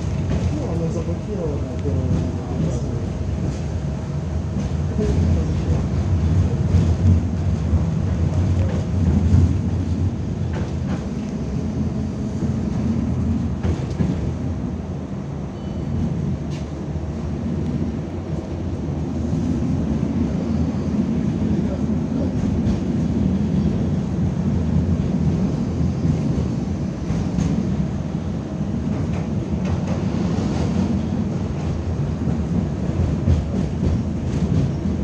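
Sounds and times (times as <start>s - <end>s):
tram wheels rumbling on track: 0.0s - 35.0s.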